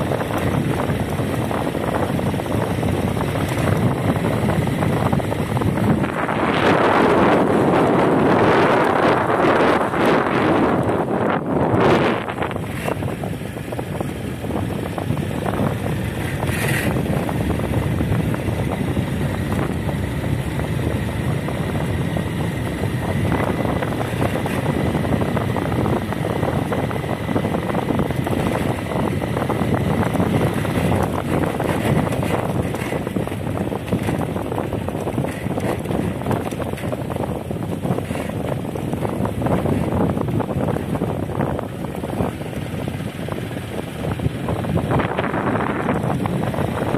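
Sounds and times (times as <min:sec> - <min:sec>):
moving vehicle rumble: 0:00.0 - 0:46.9
wind buffeting microphone: 0:00.0 - 0:46.9.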